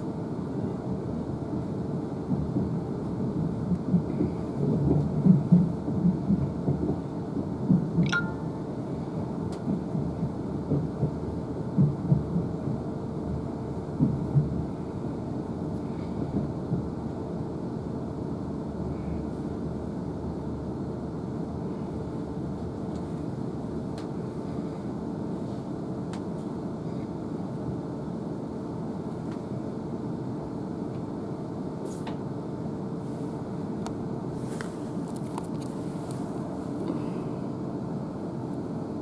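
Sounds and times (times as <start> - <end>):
constant hum: 0.0 - 39.0
train running noise from inside: 0.0 - 39.0.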